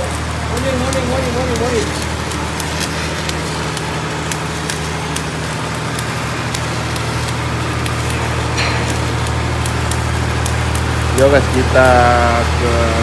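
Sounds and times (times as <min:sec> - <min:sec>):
arc welding sizzling and popping: 0:00.0 - 0:13.0.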